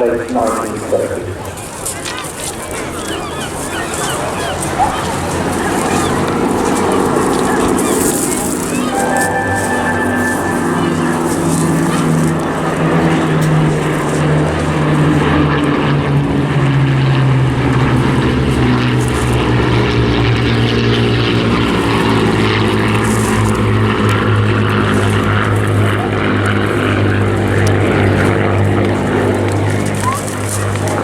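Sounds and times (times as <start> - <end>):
propeller plane engines droning: 0.0 - 31.0.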